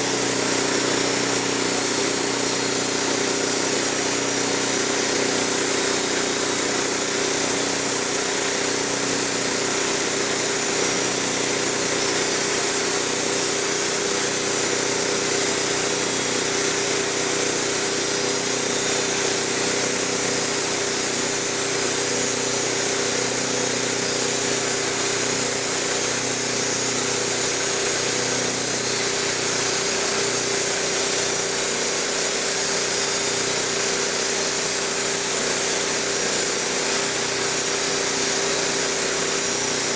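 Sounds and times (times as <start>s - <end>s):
band blade sawing log: 0.0s - 39.9s
sawmill engine running: 0.0s - 39.9s.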